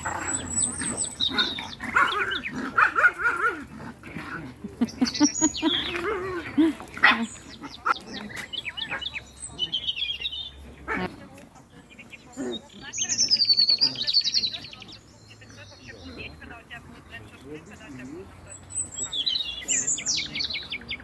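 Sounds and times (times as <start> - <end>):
small dogs barking and yipping: 0.0 - 15.1, 15.8 - 21.0.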